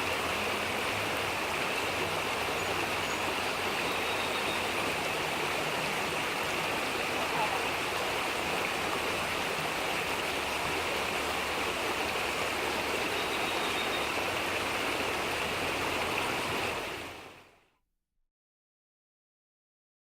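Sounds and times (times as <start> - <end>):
water running over stones: 0.0 - 17.4.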